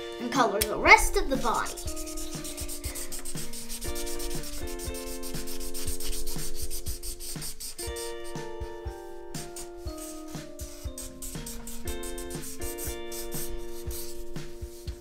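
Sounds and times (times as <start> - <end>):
marker scribbling on paper: 0.9 - 8.5, 9.4 - 15.0.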